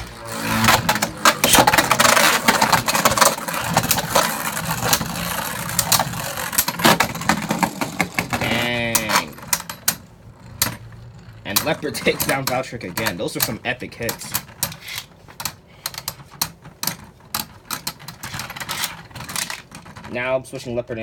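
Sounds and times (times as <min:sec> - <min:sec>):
spinning tops whirring and clashing: 0:00.0 - 0:19.8
sharp plastic clacks: 0:00.6 - 0:20.2.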